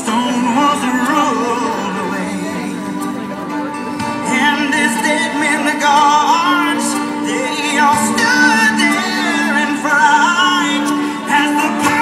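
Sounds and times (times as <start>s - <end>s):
pop song over loudspeakers: 0.0s - 12.0s.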